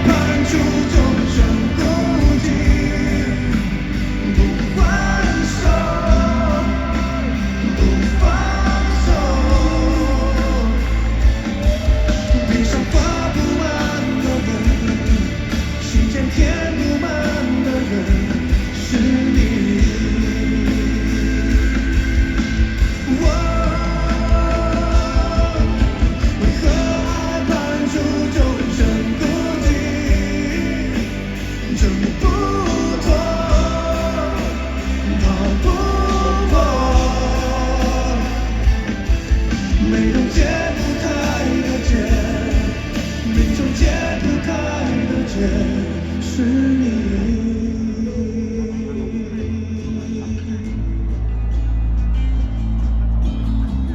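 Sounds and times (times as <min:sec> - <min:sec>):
melodic lead line: 0:00.0 - 0:46.3
person singing: 0:00.0 - 0:51.1
bass: 0:00.0 - 0:53.9
drums: 0:00.0 - 0:53.9.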